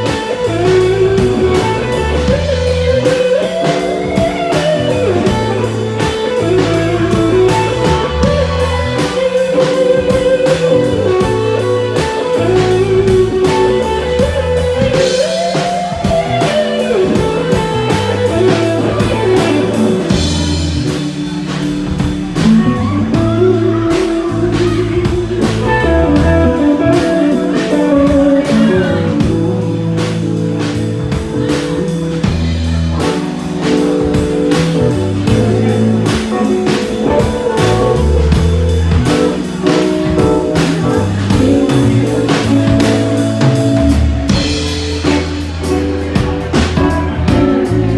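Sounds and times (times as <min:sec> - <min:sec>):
bass guitar: 0:00.0 - 0:47.9
drum kit beat: 0:00.0 - 0:47.9
electric guitar lead bending notes: 0:00.0 - 0:47.9.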